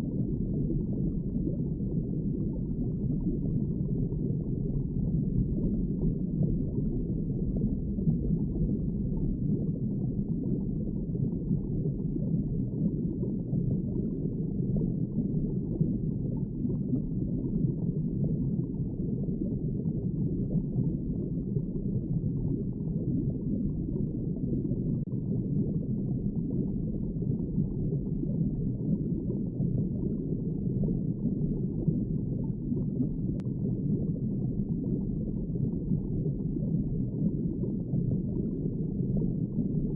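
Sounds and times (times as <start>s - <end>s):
underwater water wash: 0.0s - 39.9s.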